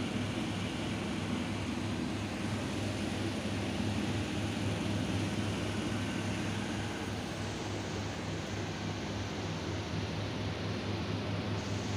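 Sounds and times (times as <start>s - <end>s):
machine hum and hiss: 0.0s - 11.9s.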